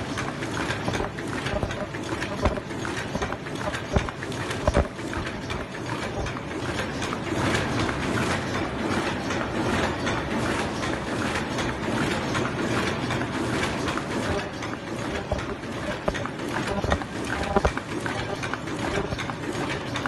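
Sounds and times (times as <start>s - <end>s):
machine clattering: 0.0s - 20.0s.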